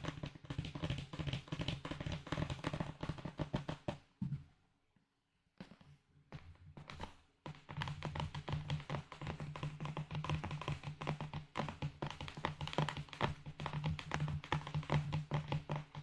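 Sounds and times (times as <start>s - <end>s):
rapid tapping and clicking: 0.0s - 4.0s, 6.9s - 16.0s.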